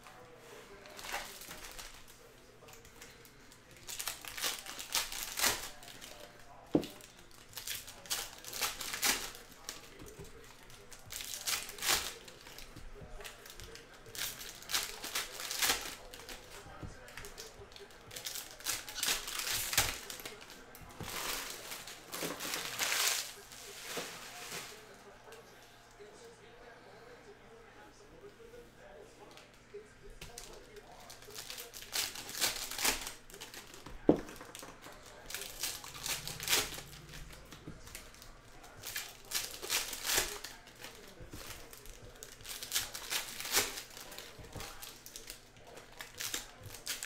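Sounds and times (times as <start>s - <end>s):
foil wrappers crinkling and tearing: 0.7s - 25.4s, 30.2s - 47.0s.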